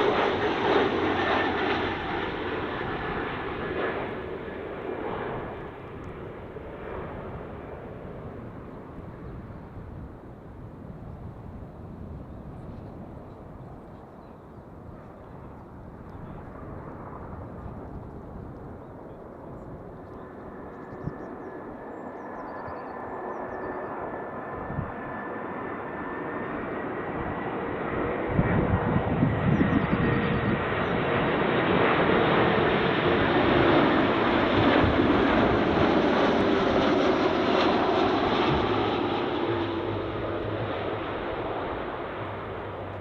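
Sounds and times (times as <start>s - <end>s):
jet engines whining: 0.0s - 10.6s, 11.8s - 43.0s
jet engine rumble overhead: 0.0s - 43.0s.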